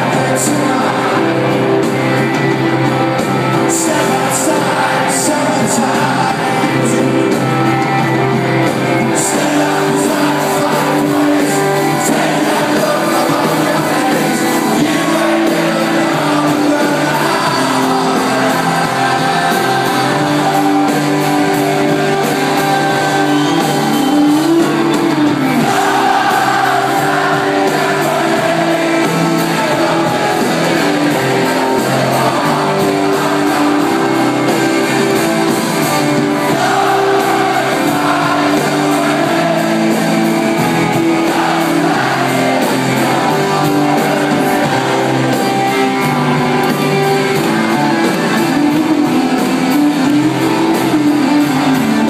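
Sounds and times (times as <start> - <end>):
crowd singing along: 0.0 - 52.0
live rock band playing: 0.0 - 52.0.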